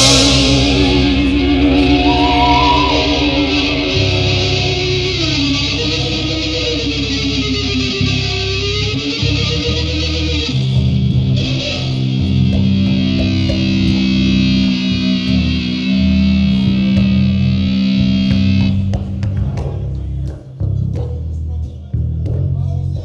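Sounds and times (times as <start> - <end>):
electric guitar: 0.0 - 19.7
bass guitar low notes: 0.0 - 23.0.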